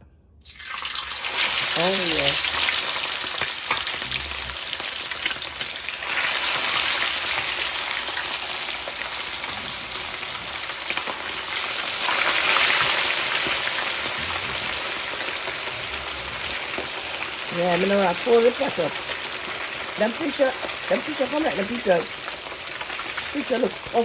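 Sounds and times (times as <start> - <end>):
fish sizzling in hot oil: 0.4 - 24.0.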